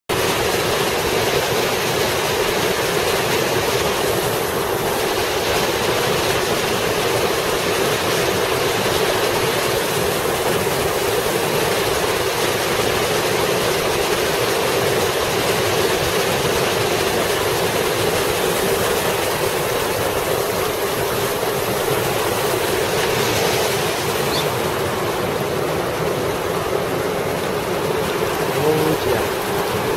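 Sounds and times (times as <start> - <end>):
waterfall rushing into pool: 0.1 - 29.9.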